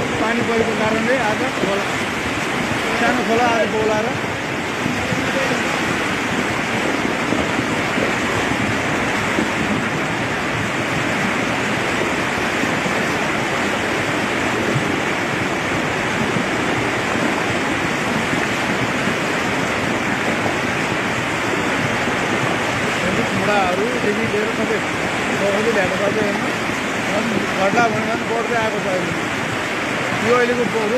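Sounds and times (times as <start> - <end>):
floodwater rushing: 0.0 - 30.9.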